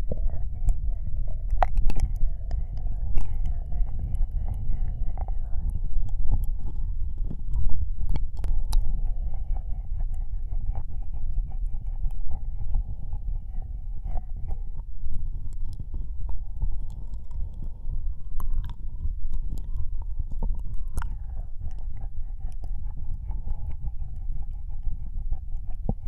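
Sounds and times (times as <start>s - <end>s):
low rumble: 0.0s - 26.0s
wet ear-licking mouth sounds: 0.0s - 26.0s.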